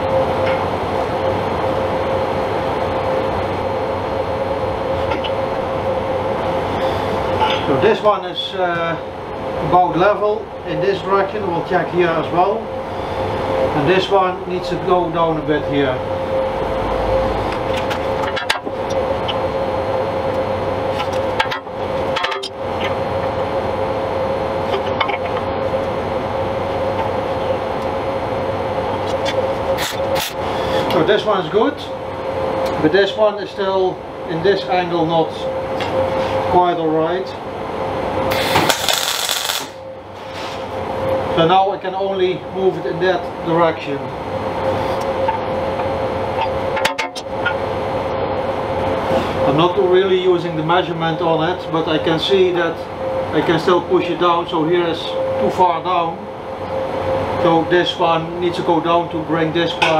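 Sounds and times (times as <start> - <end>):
machine humming: 0.0 - 49.5.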